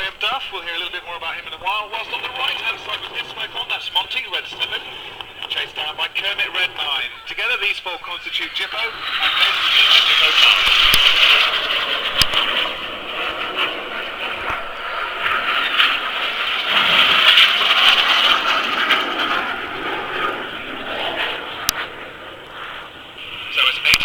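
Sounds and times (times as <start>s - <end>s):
jets flying past: 0.0s - 24.0s.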